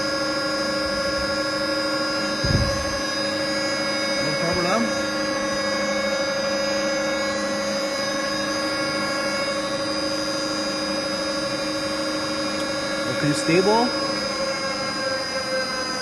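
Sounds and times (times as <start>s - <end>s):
blender machine hum and whine: 0.0s - 16.0s.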